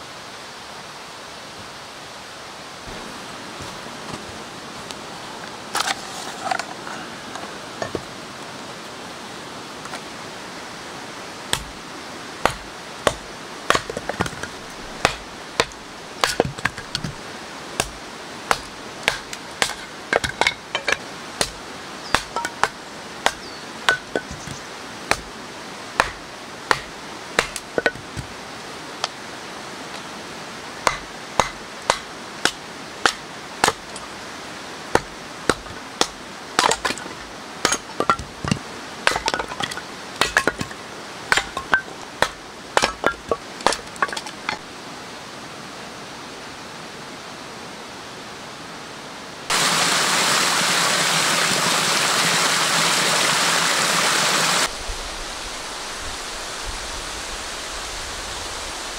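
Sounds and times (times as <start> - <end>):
background hiss: 0.0 - 58.9.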